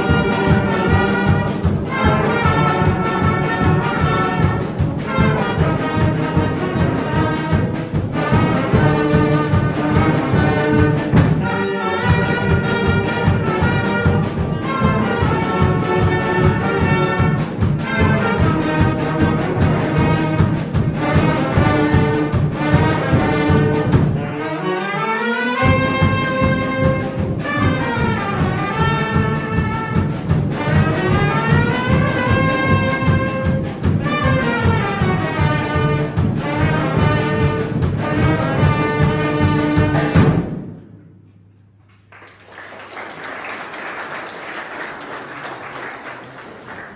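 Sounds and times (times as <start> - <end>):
military brass band playing: 0.0 - 41.6.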